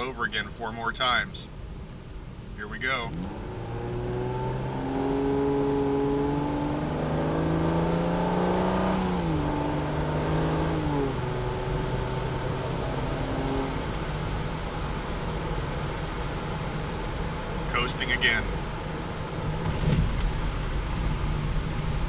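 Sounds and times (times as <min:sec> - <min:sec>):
car engine accelerating: 0:02.9 - 0:22.0.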